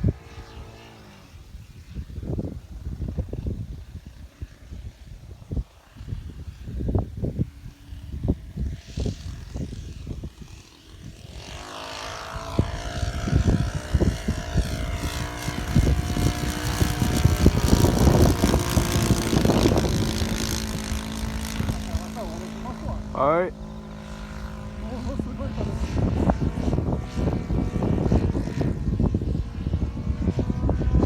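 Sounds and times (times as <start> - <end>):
model airplane engine flying overhead: 0.0 - 31.0
wind buffeting microphone: 0.0 - 31.0.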